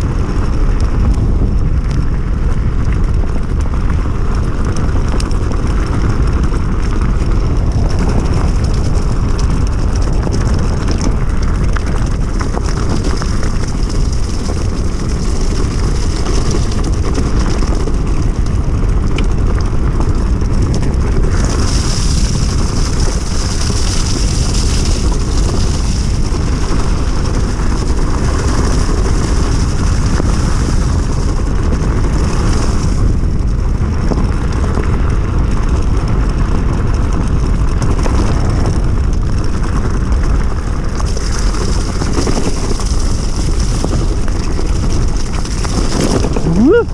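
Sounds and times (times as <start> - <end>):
tyre rumble: 0.0 - 46.9
wind buffeting microphone: 0.0 - 46.9.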